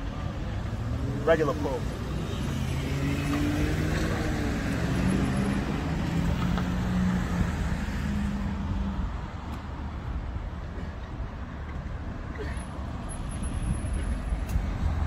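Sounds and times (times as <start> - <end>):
road traffic noise: 0.0 - 15.0
vehicle engine humming nearby: 0.0 - 15.0.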